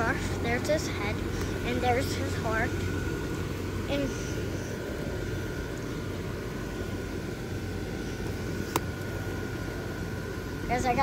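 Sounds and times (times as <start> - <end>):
electric blower fans humming: 0.0 - 11.0.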